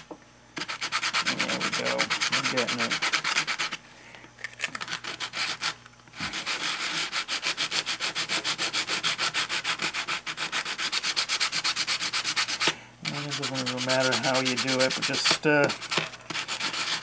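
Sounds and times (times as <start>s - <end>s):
abrasive paper rubbing back and forth: 0.6s - 3.8s, 4.8s - 17.0s.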